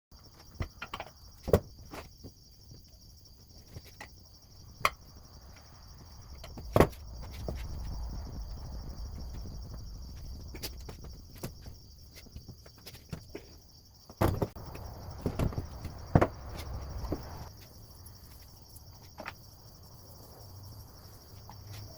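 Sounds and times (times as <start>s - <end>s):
crickets chirring: 0.2s - 21.9s.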